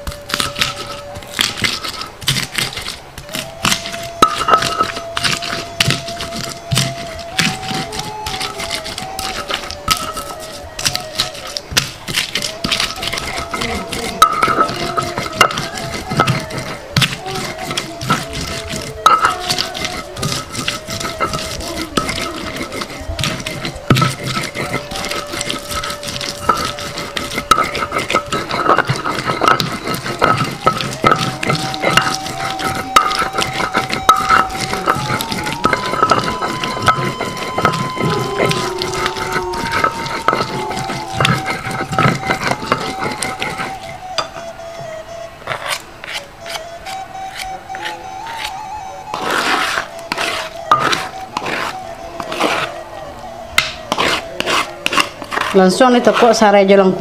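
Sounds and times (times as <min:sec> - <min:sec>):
soft background music: 0:00.0 - 0:57.0
stone pestle grinding spices: 0:00.0 - 0:57.0.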